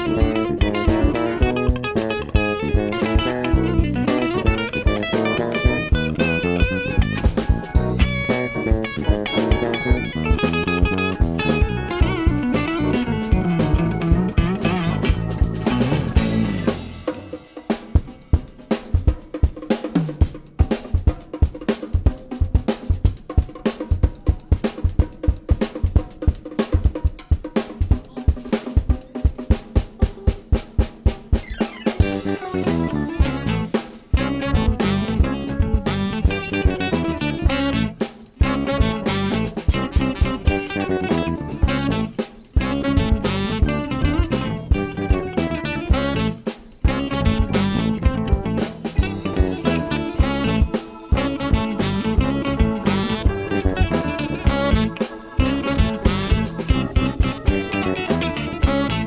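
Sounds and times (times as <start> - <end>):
drum break snare and bass drum: 0.0 - 59.0
jazz-funk band playing: 0.0 - 59.0.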